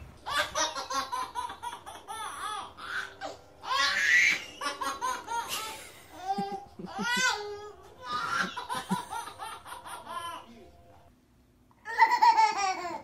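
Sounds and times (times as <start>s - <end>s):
baby laughing: 0.2s - 10.5s, 11.8s - 13.0s.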